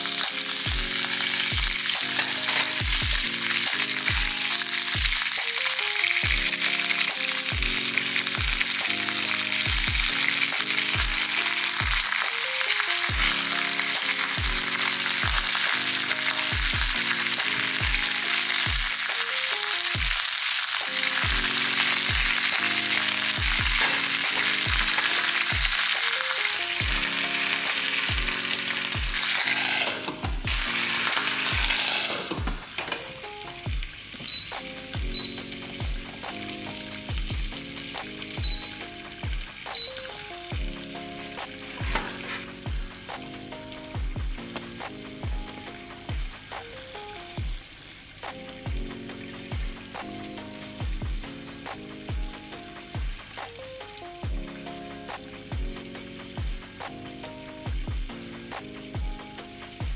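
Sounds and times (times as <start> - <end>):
background music with beat: 0.0 - 59.9
fish and vegetables sizzling: 0.0 - 59.9.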